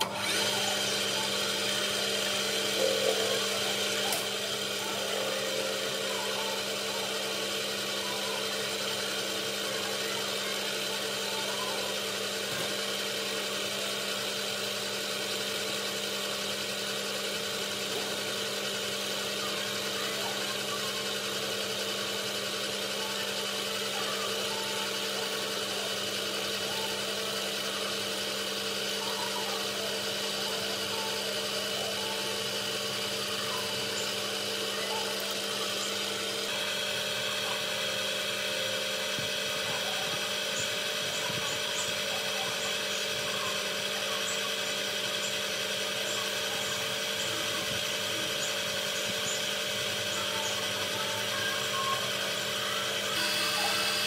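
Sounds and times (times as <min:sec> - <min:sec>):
power tool motor whining: 0:00.0 - 0:54.0.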